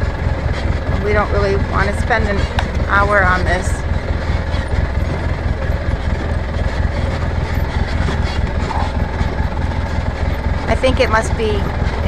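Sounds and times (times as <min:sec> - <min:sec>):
off-road vehicle engine rumbling: 0:00.0 - 0:12.0.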